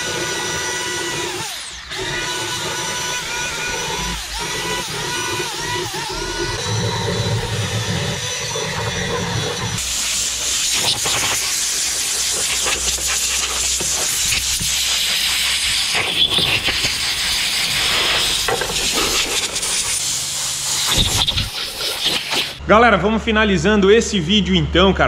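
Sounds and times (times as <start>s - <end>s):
air blow gun hissing: 2.4s - 22.6s.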